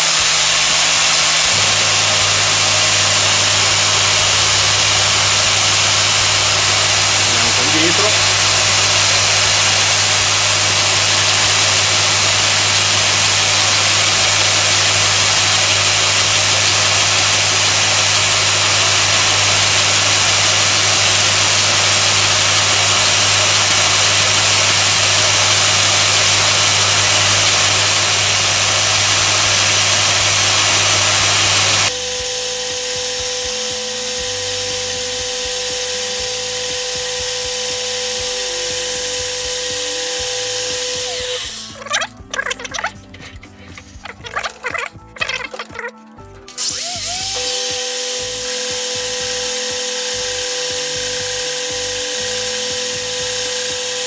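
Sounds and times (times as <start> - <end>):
lathe hum: 0.0 - 42.0, 46.6 - 54.0
grinder hissing on metal: 0.0 - 42.9, 46.5 - 54.0.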